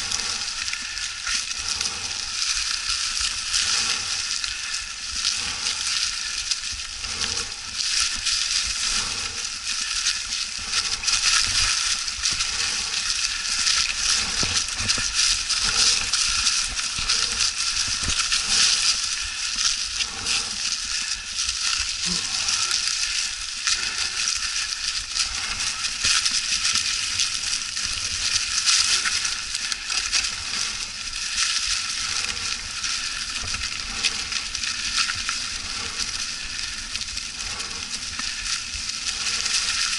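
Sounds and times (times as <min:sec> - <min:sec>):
bike tyres crunching through leaves: 0:06.6 - 0:39.9.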